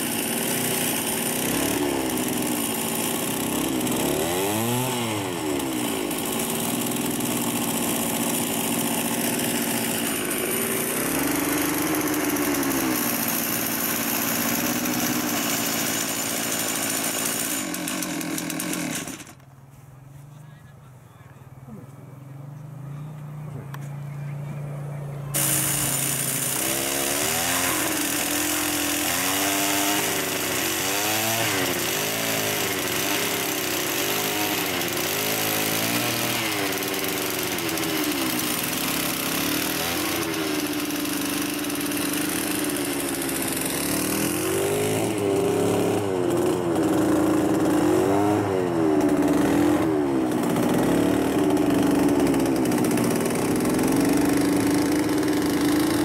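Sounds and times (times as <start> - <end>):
small petrol engine revving: 0.0 - 19.5, 21.6 - 56.0.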